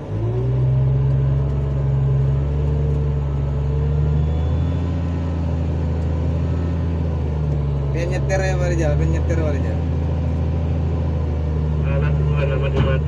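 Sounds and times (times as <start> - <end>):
diesel engine running hard: 0.0 - 13.0.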